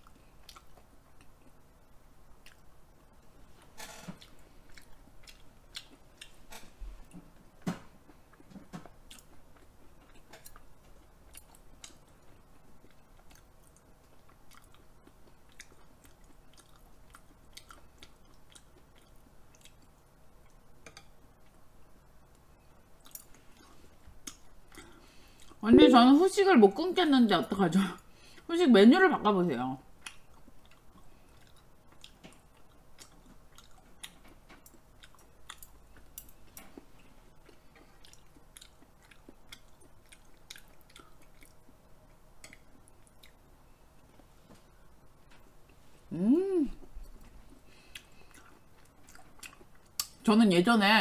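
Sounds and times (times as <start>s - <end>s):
wet chewing and mouth sounds: 0.0s - 1.6s, 2.4s - 2.8s, 3.6s - 7.4s, 8.0s - 21.6s, 22.3s - 25.6s, 30.0s - 45.9s, 46.7s - 50.3s.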